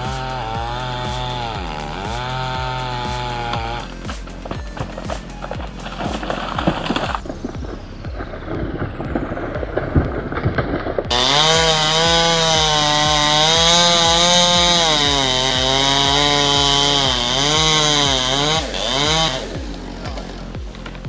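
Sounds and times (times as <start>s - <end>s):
chainsaw cutting wood: 0.0s - 7.3s, 11.1s - 21.0s.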